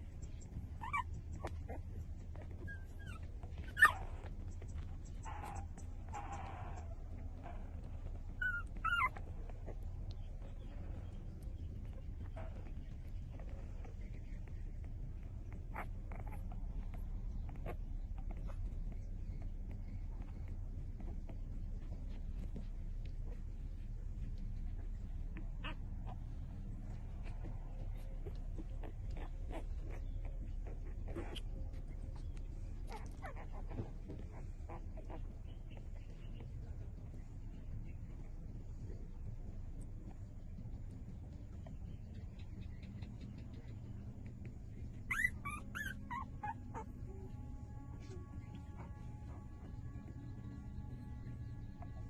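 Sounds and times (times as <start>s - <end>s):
puppy squeaking: 0.0s - 36.6s, 42.4s - 52.0s
low background rumble: 0.0s - 52.0s.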